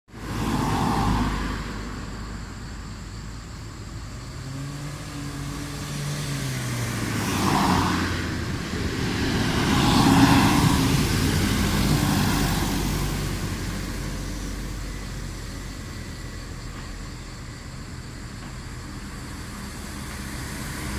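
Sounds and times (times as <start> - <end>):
cars passing: 0.1 - 20.9
low engine hum: 0.1 - 20.9.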